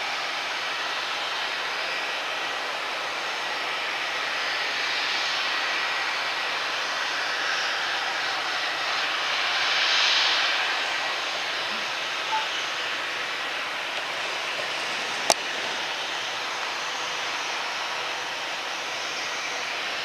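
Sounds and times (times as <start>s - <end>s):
jet engines rushing with whine: 0.0s - 20.0s.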